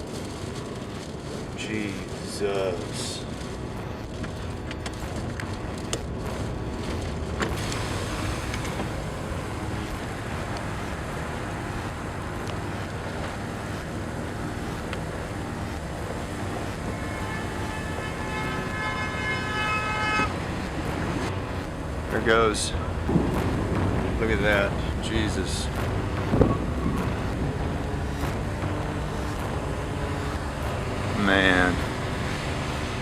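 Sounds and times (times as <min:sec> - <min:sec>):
car road and wind noise: 0:00.0 - 0:33.0.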